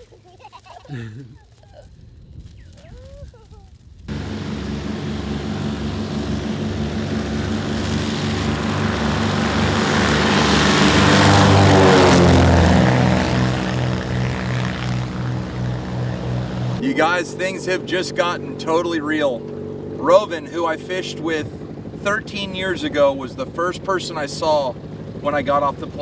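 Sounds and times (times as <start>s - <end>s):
propeller plane engine passing: 4.1s - 26.0s.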